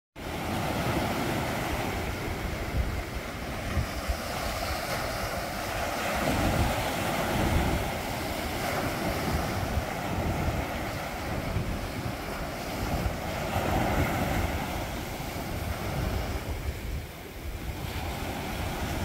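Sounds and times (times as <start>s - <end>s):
sea surf breaking on rocks: 0.2s - 19.0s.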